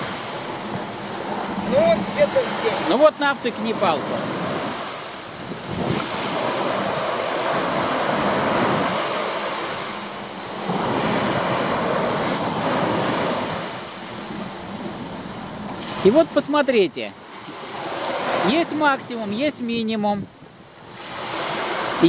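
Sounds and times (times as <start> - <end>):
small waves breaking on shore: 0.0 - 22.0.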